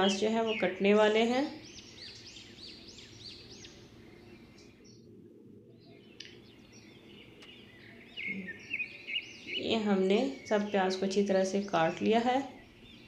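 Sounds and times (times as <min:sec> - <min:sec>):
small bird chirping: 0:00.0 - 0:05.1, 0:05.8 - 0:13.0.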